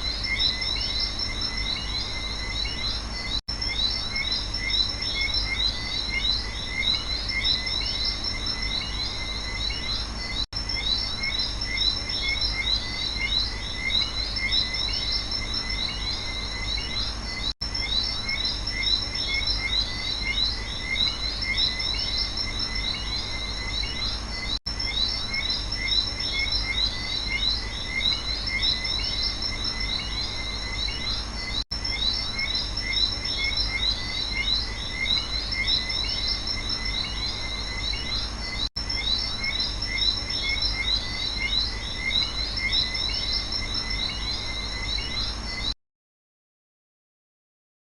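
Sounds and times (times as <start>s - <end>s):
high insect drone: 0.0s - 45.7s
frogs and insects chirping: 0.0s - 45.8s.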